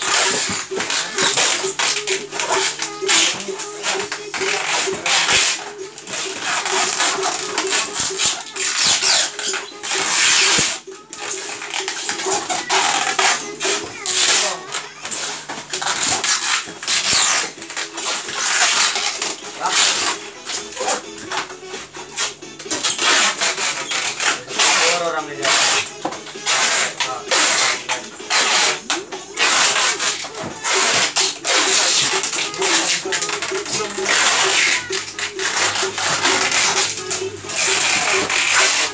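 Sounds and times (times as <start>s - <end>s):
packing tape pulled off roll: 0.0s - 21.5s, 22.1s - 38.9s
plastic wrap rustling: 0.0s - 21.5s, 22.1s - 38.9s
background voices chattering: 0.0s - 38.9s.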